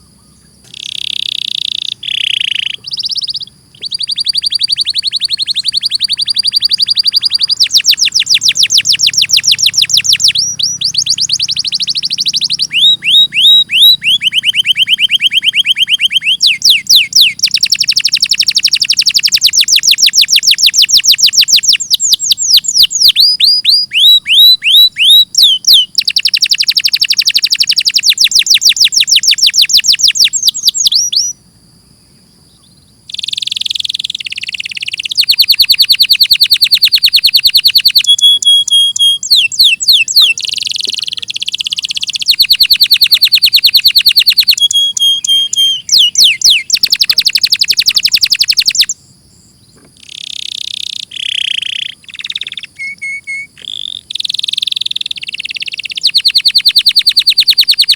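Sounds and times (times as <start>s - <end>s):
canary singing trills: 0.0s - 31.7s, 32.3s - 57.9s.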